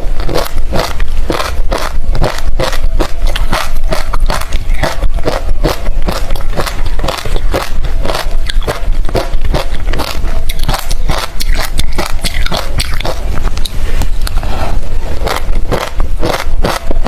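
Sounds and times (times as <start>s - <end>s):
chewing crushed ice: 0.2s - 14.4s, 15.2s - 17.0s.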